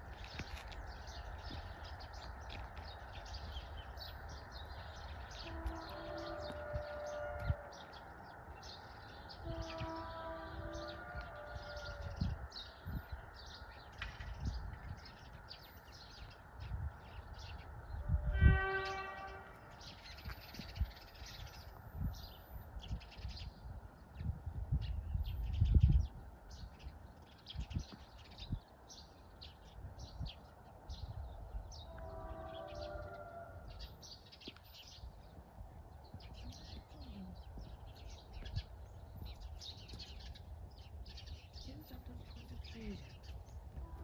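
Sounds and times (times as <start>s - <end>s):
small birds chirping: 0.0s - 18.2s, 18.8s - 44.0s.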